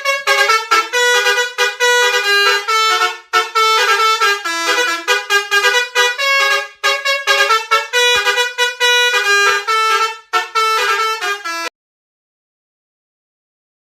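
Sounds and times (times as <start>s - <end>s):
bus horn playing a melody: 0.0s - 11.7s.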